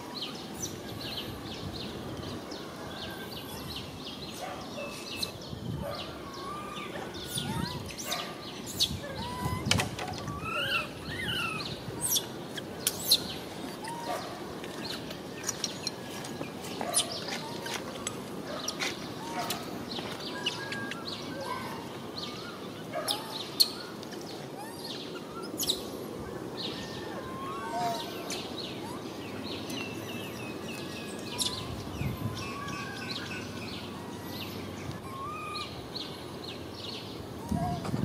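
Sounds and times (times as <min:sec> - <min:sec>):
birds chirping: 0:00.0 - 0:38.0
outdoor background noise: 0:00.0 - 0:38.0.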